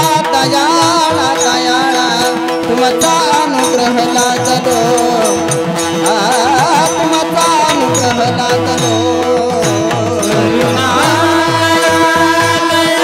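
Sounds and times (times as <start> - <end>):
drumming: 0.0 - 13.0
held accompanying notes: 0.0 - 13.0
person singing: 0.0 - 13.0.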